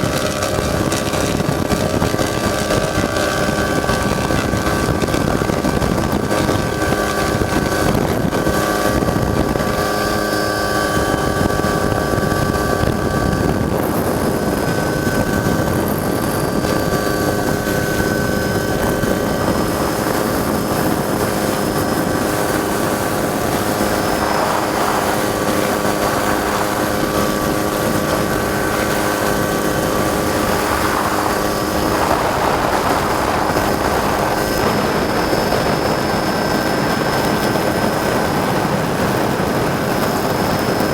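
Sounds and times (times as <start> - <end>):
constant whining tones: 0.0 - 40.9
helicopter engine and rotor drone: 0.0 - 40.9.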